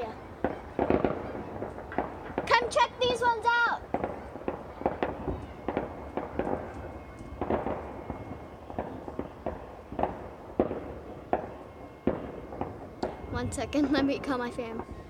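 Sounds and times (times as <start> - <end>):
distant fireworks rumbling: 0.0 - 15.0
firecrackers cracking and popping: 0.0 - 15.0.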